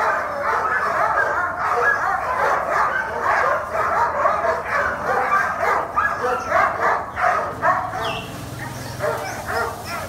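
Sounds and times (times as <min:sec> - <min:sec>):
sled dogs barking and yipping: 0:00.0 - 0:10.0.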